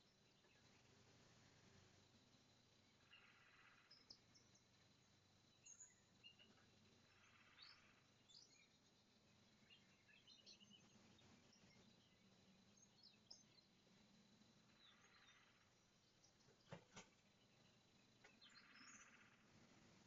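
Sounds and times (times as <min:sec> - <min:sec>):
distant bird chirps: 0:00.0 - 0:20.0.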